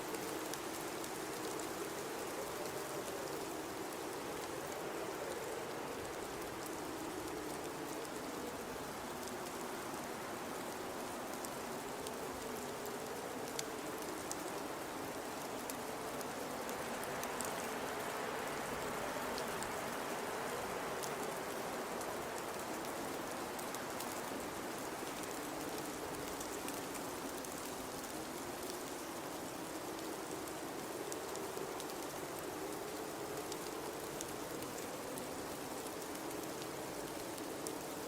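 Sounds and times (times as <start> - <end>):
blizzard wind howling: 0.0 - 38.0
faint scattered ticks: 0.0 - 38.0.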